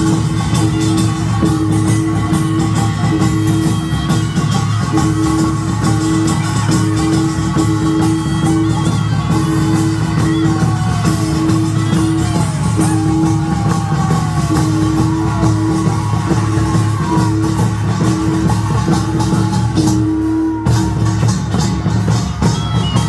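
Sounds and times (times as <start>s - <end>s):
drums and gongs beating fast: 0.0s - 23.0s
held melodic line: 0.0s - 23.0s.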